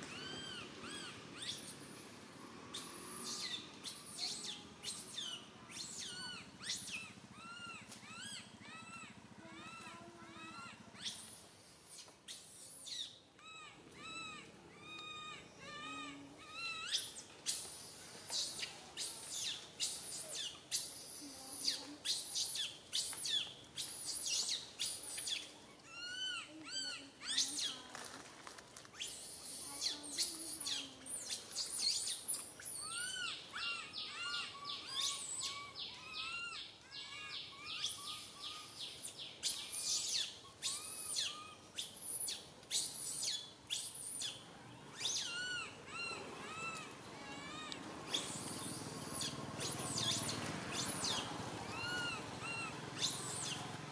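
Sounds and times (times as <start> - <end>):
baby monkey crying: 0.0 - 27.8, 29.0 - 53.7.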